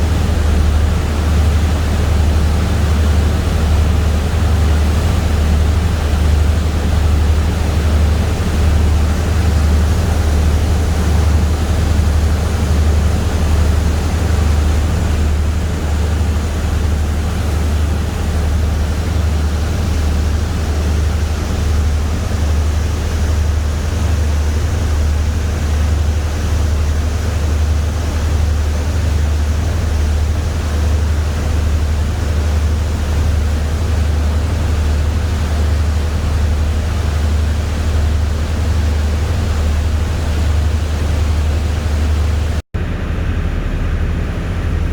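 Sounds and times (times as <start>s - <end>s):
boat engine drone: 0.0s - 44.9s
water rushing: 0.0s - 44.9s.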